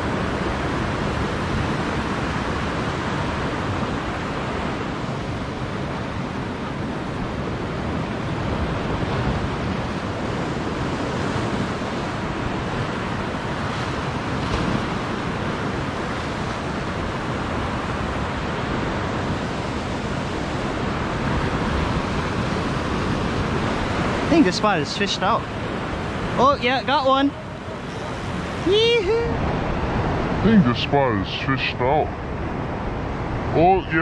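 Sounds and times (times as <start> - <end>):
surf breaking on rocks: 0.0 - 32.0.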